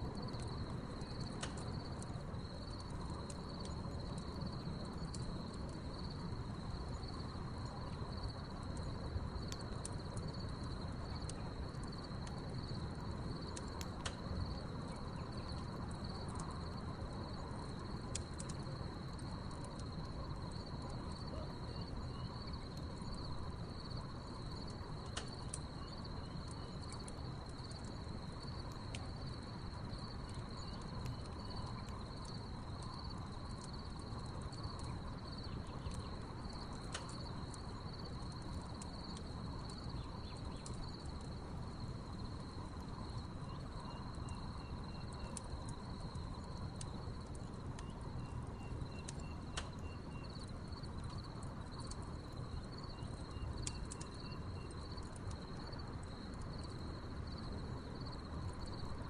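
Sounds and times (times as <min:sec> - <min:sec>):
crickets chirping: 0:00.0 - 0:59.0
wood fire crackling: 0:00.0 - 0:59.0.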